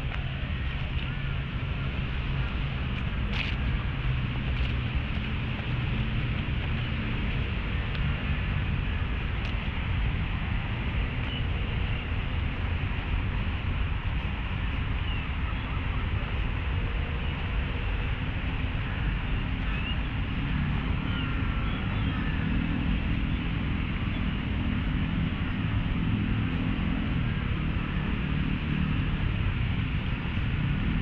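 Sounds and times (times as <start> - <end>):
distant traffic rumble: 0.0 - 31.0.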